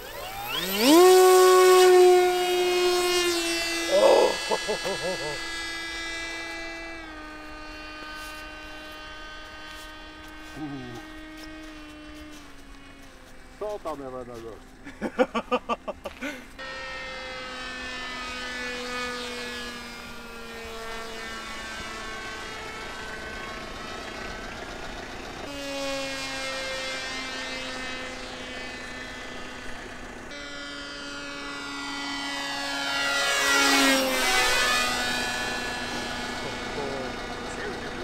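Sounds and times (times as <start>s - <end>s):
sharp pulses: 0.0s - 12.5s, 16.6s - 38.0s
rc plane motor droning: 0.0s - 38.0s.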